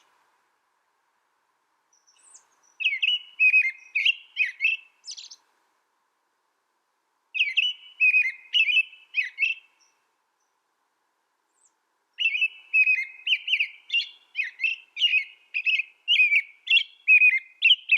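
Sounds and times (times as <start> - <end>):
songbird chirping: 1.4 - 6.0, 7.1 - 17.9.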